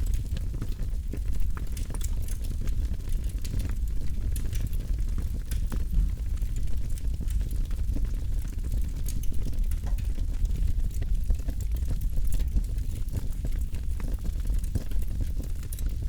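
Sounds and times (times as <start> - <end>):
campfire flames rumbling: 0.0 - 15.9
fire crackles and pops: 0.0 - 15.9.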